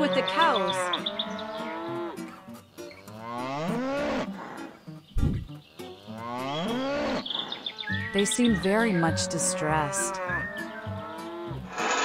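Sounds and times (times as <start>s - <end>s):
cows mooing: 0.0s - 4.8s, 5.8s - 12.0s.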